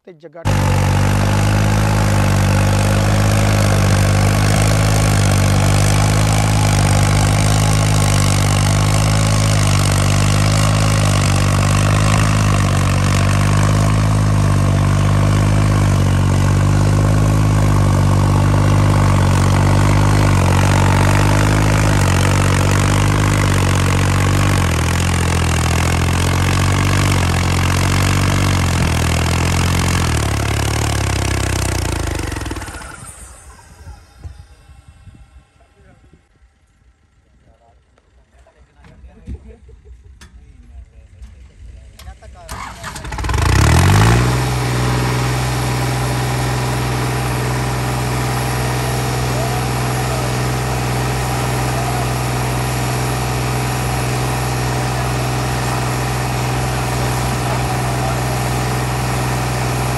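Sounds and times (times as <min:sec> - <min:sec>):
tractor diesel engine under load: 0:00.0 - 0:35.8, 0:42.1 - 0:59.9.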